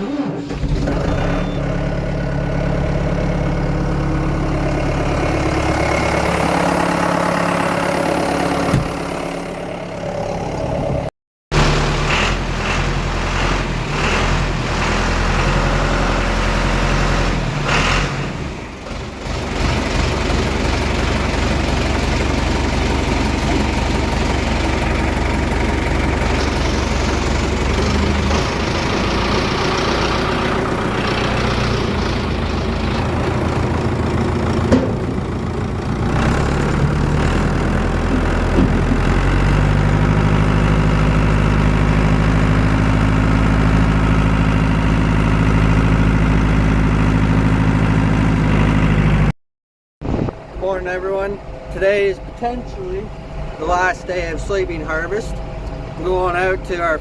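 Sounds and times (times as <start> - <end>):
farm machinery engines running: 0.0 - 49.3, 50.1 - 57.0.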